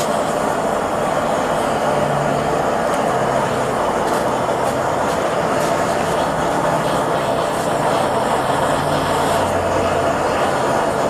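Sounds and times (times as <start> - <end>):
furnace burner rushing: 0.0 - 11.0.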